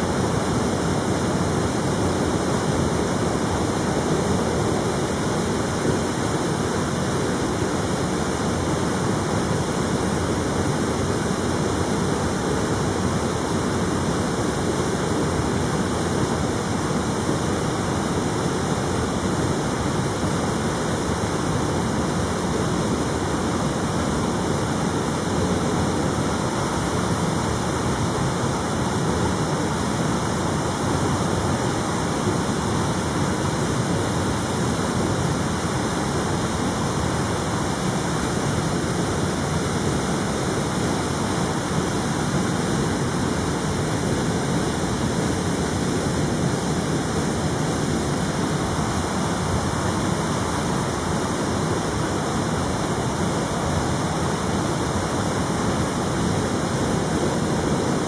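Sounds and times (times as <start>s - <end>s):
steady rushing noise: 0.0s - 58.0s.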